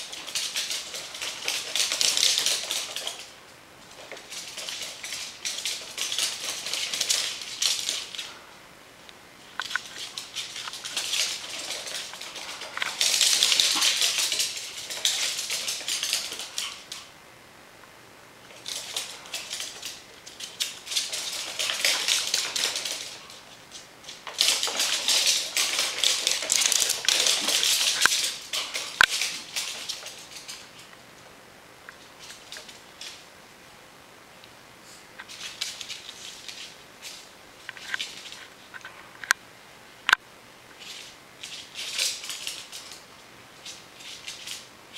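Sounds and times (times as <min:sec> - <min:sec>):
animal claws skittering on wood floor: 0:00.0 - 0:08.4, 0:09.5 - 0:17.1, 0:18.5 - 0:31.0, 0:35.2 - 0:39.3, 0:40.7 - 0:44.7.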